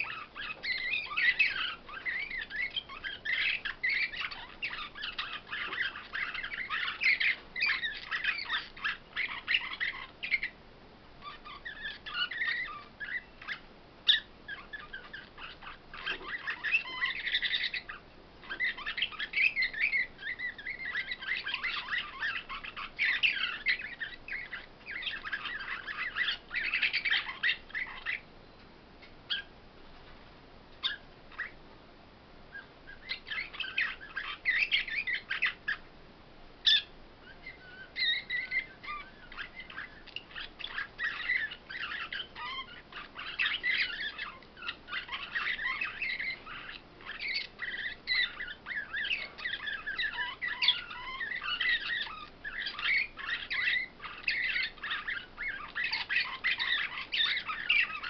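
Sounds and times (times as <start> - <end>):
bird chirps: 0.0 - 10.6, 11.2 - 29.5, 30.8 - 31.6, 32.5 - 35.9, 36.6 - 58.0
songbirds twittering: 0.0 - 31.7, 32.4 - 36.0, 36.6 - 58.0.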